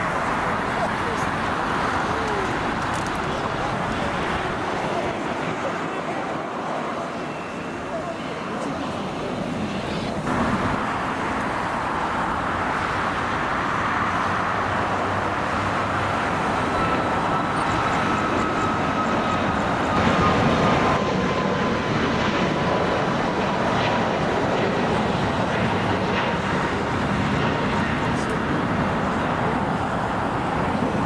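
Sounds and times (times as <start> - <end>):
faint engine whine: 0.0 - 31.0
jet engines rushing: 0.0 - 31.0.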